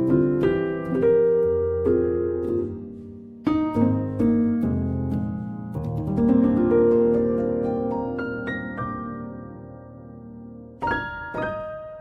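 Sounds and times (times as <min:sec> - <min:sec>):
gentle plucked and keyboard music: 0:00.0 - 0:12.0.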